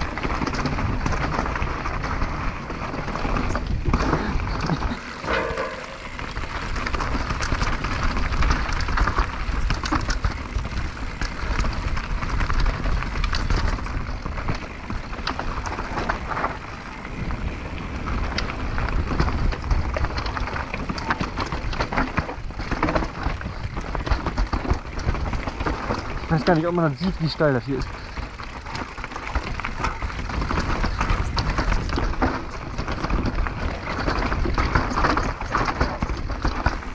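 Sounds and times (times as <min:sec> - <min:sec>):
bike clicking and rattling: 0:00.0 - 0:36.9.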